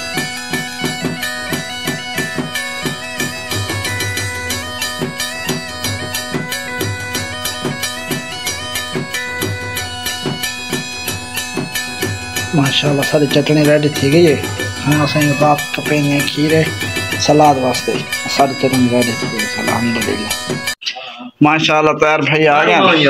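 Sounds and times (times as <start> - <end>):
regular drum beat: 0.0 - 20.8
wind instrument melody: 0.0 - 20.8.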